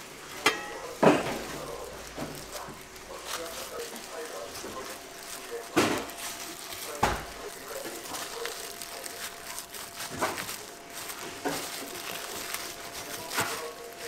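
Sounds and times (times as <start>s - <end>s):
kitchen background noise: 0.0s - 14.0s
rustling and crinkling: 0.0s - 14.0s.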